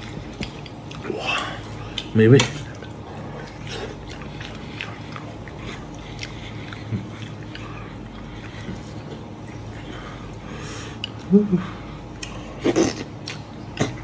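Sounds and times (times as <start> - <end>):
man chewing: 0.0 - 14.0.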